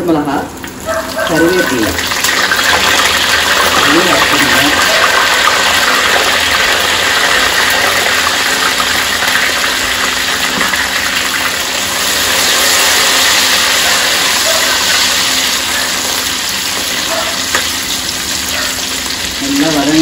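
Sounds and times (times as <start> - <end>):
oil sizzling in a clay pot: 0.0 - 20.0.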